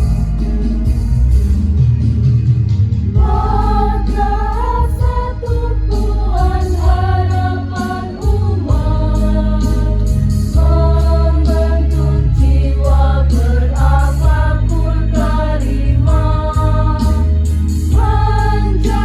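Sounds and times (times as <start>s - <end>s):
instrumental accompaniment: 0.0s - 19.0s
steady bass line: 0.0s - 19.0s
choir singing: 3.2s - 19.0s.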